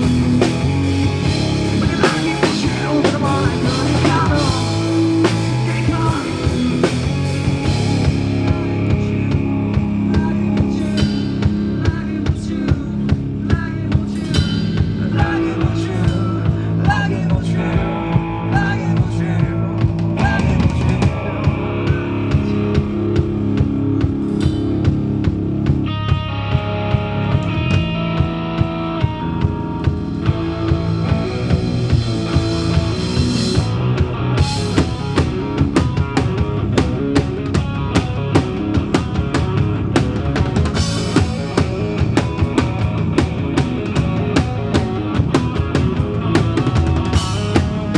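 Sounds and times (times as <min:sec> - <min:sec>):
bass guitar: 0:00.0 - 0:47.9
drum kit beat: 0:00.0 - 0:47.9
electric guitar: 0:00.0 - 0:47.9.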